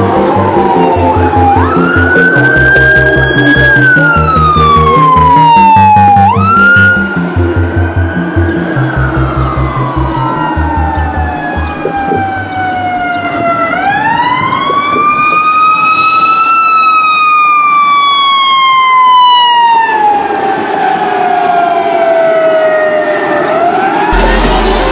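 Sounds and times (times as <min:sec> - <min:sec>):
fire engine siren wailing: 0:00.0 - 0:24.9.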